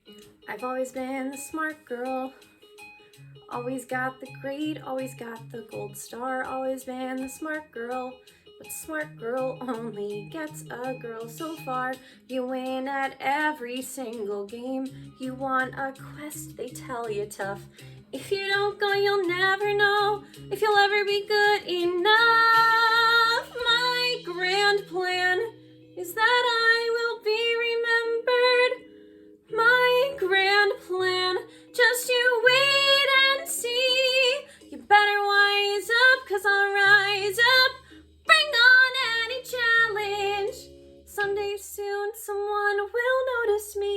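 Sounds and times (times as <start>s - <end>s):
young woman singing: 0.5s - 2.5s, 3.4s - 28.9s, 29.5s - 43.9s.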